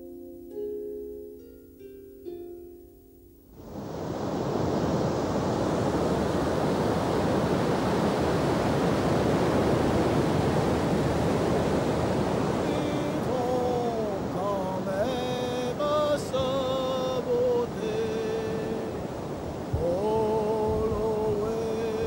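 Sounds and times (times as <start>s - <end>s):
waves breaking: 3.6s - 22.0s.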